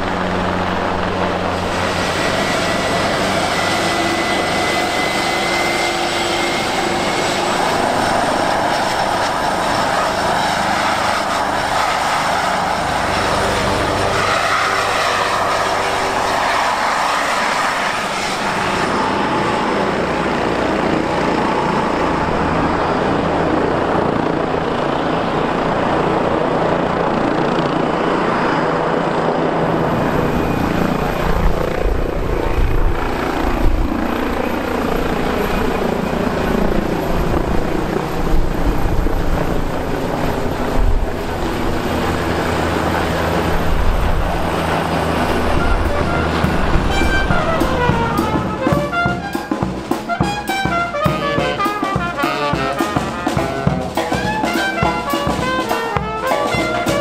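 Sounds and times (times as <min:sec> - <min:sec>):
helicopter rotor noise: 0:00.0 - 0:57.0
high turbine whine: 0:00.0 - 0:57.0.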